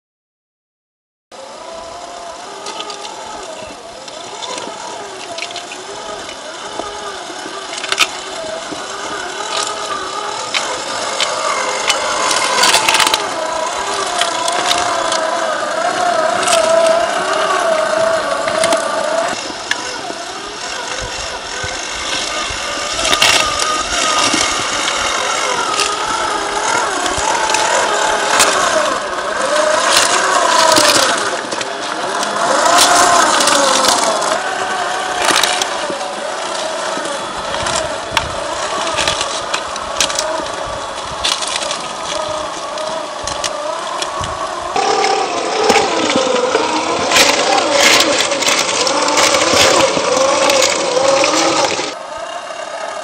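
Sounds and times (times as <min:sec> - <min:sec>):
tyres crunching on gravel: 0:01.4 - 0:52.8
electric motor whining: 0:01.4 - 0:53.0.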